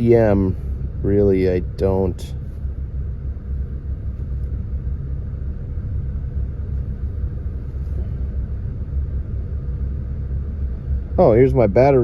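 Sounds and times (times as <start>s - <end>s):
car engine idling and misfiring: 0.0s - 12.0s.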